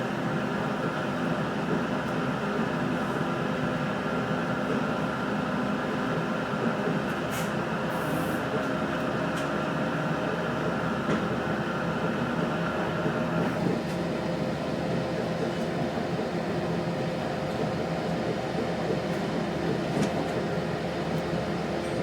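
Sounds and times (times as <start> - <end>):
train engine and wheels rumbling: 0.0 - 22.0.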